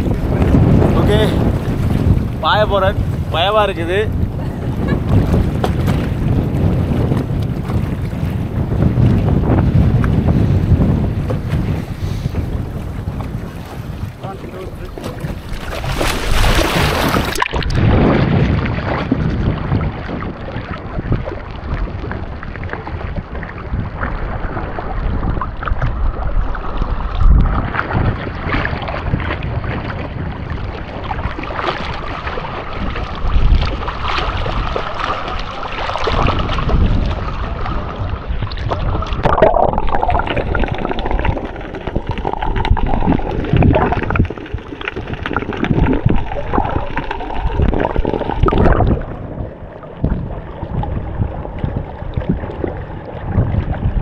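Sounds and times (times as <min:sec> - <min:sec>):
muffled underwater water sloshing: 0:00.0 - 0:54.0.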